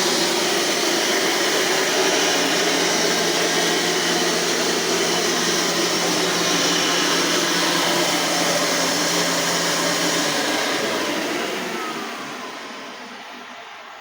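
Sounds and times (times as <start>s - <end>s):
vacuum cleaner motor humming: 0.0s - 13.3s.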